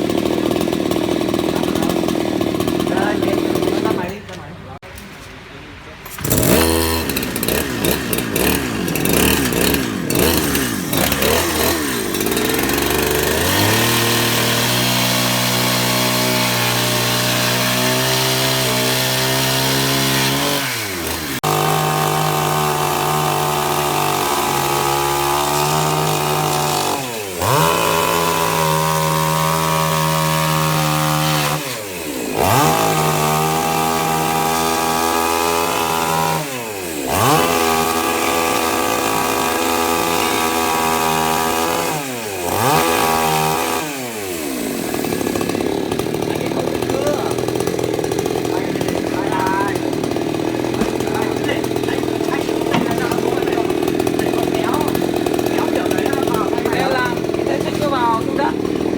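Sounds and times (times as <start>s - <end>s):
chainsaw revving: 0.0s - 4.5s, 6.0s - 58.9s.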